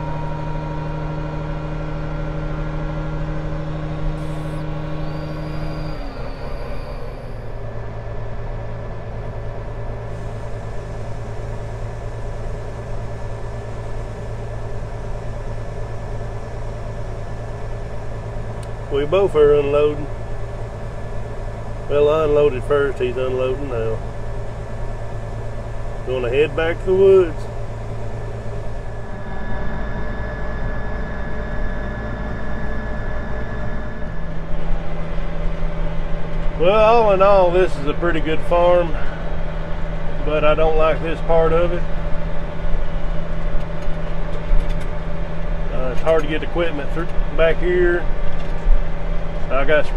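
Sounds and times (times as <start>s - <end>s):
tractor diesel engine humming: 0.0s - 49.9s.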